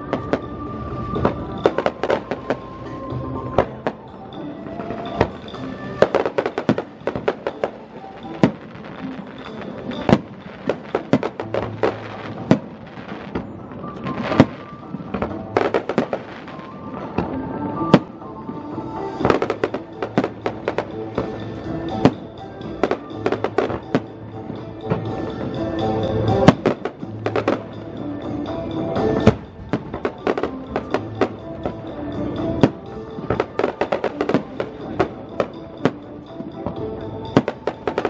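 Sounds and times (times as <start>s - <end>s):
fireworks bursting: 0.0s - 27.9s, 29.0s - 38.0s
music playing: 0.0s - 38.0s.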